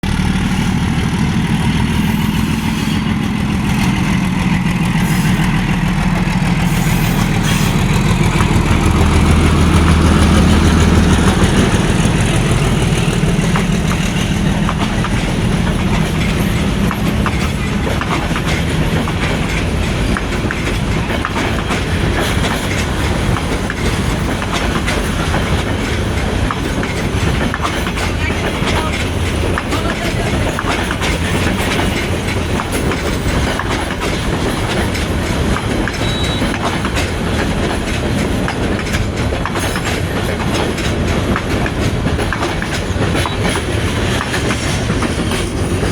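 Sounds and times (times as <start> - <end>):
train engine hum: 0.0 - 45.9
wheels clacking over rail joints: 0.1 - 45.9.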